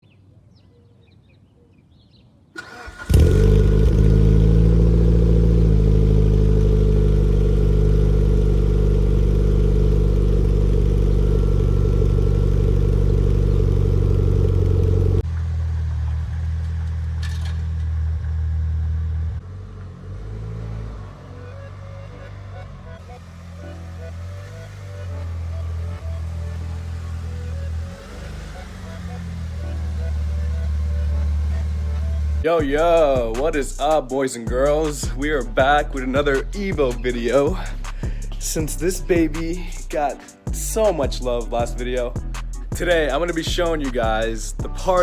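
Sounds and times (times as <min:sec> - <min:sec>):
car engine cranking: 0:02.6 - 0:18.4, 0:23.2 - 0:45.0
car engine idling: 0:02.6 - 0:19.9, 0:21.6 - 0:45.0.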